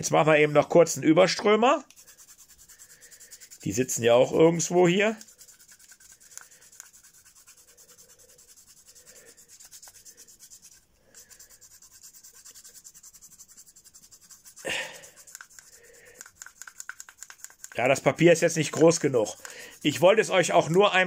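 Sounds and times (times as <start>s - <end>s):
pencil rubbing on paper: 1.8s - 21.0s.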